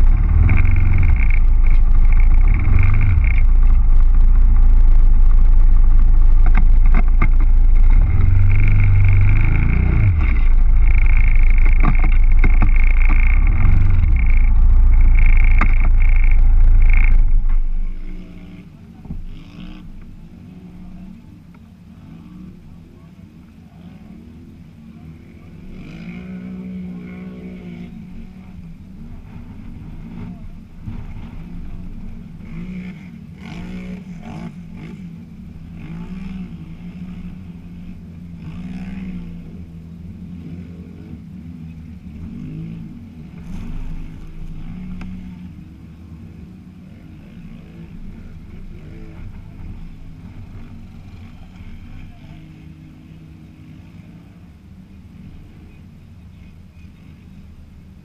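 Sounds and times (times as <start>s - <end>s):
atv engines idling and revving: 0.0s - 58.0s.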